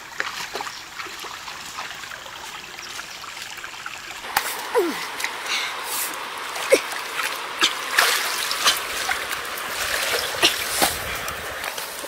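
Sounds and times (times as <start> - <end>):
water splashing and trickling: 0.0 - 12.0
water pouring through basket: 0.3 - 12.0.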